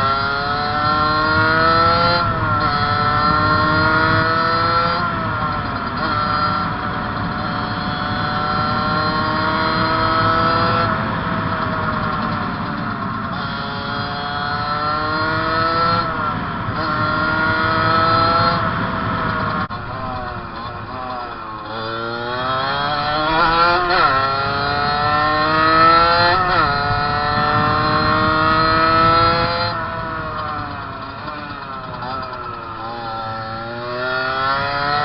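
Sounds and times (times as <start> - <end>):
motorcycle engine at full throttle: 0.0 - 35.0.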